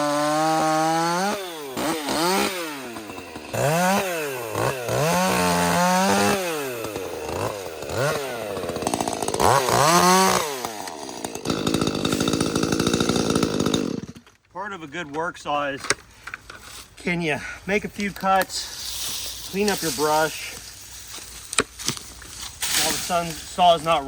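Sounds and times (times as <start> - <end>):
chainsaw revving: 0.0 - 14.3, 18.0 - 24.0.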